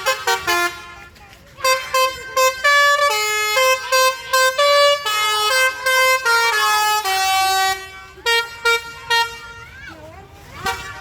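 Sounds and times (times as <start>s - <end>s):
musical bus horn melody: 0.0s - 9.7s, 10.5s - 11.0s.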